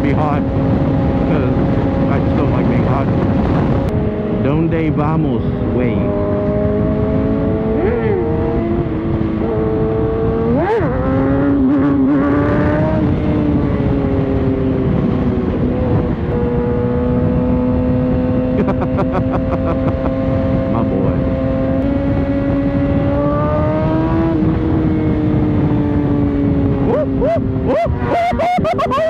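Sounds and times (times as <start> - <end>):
motorcycle engine revving: 0.0 - 29.0
wind rush: 0.0 - 29.0.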